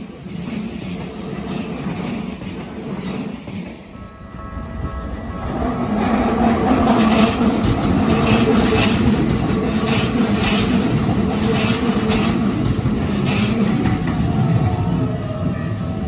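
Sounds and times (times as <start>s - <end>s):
train wheel clacks: 0.0s - 16.0s
train wheels rumbling on rail: 0.0s - 16.0s.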